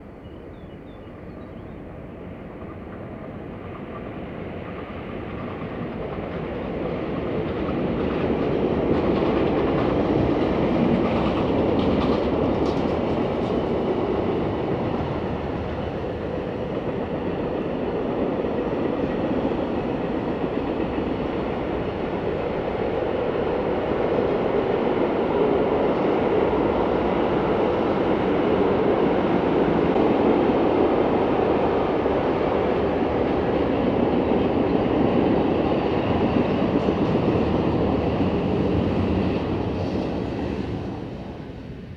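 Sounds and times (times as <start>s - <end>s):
train rolling past on rails: 0.0s - 41.9s.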